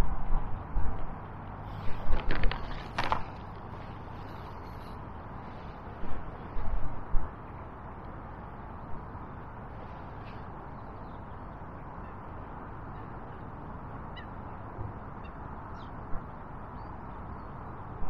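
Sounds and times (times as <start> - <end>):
riverbank background noise: 0.0 - 18.0.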